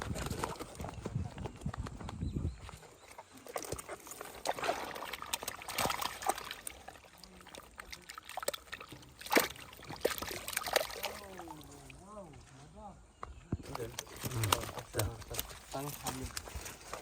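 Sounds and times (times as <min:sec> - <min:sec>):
water splashing and sloshing: 0:00.0 - 0:12.7, 0:13.6 - 0:17.0.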